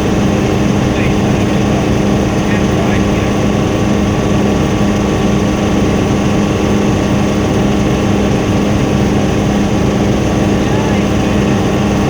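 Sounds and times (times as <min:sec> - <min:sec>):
helicopter engine and rotors: 0:00.0 - 0:12.0.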